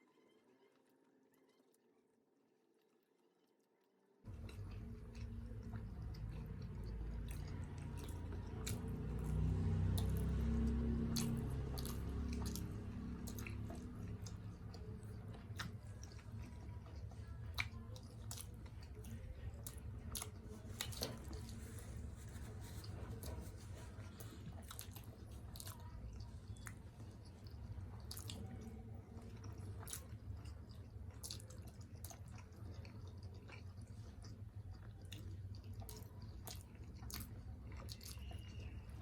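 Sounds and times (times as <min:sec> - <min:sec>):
close chewing with mouth clicks: 0:04.3 - 0:39.0.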